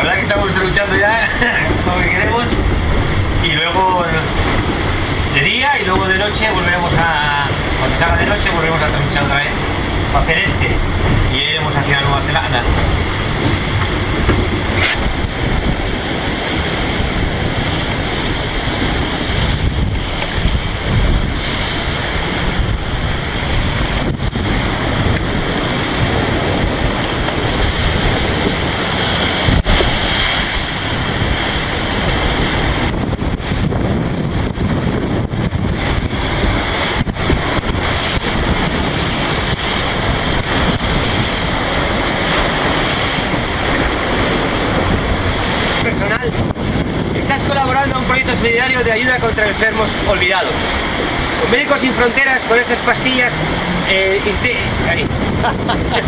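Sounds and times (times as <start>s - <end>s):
water rushing along a hull: 0.0s - 56.0s
wind buffeting microphone: 0.0s - 56.0s.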